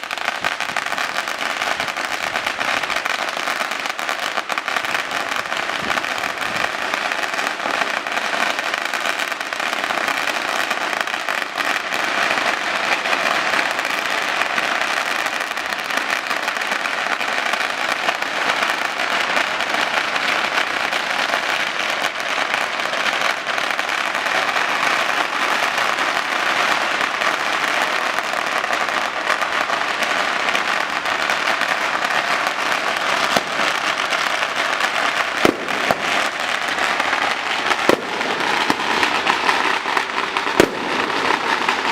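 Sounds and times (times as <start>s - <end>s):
fireworks and firecrackers crackling: 0.0s - 41.9s.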